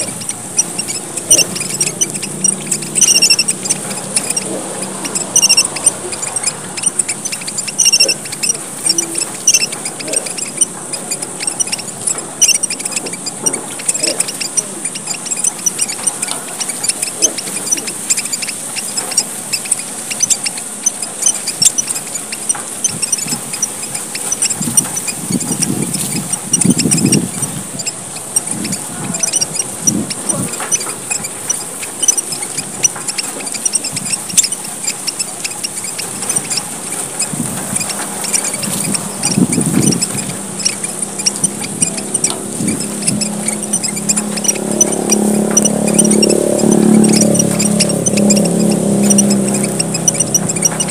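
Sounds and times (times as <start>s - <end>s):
clear high bird call: 0.0s - 50.9s
finches chirping and twittering: 0.0s - 50.9s.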